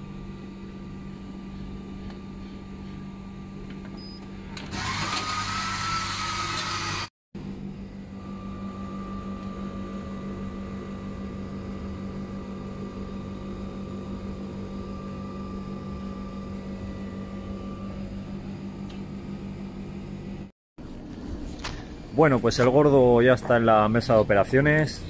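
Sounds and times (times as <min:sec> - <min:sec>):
vending machine humming: 0:00.0 - 0:25.0.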